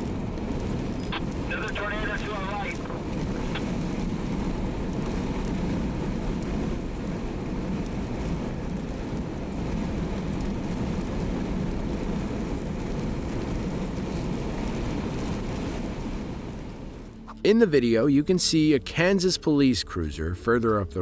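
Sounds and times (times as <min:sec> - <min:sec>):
car road and engine noise: 0:00.0 - 0:20.6.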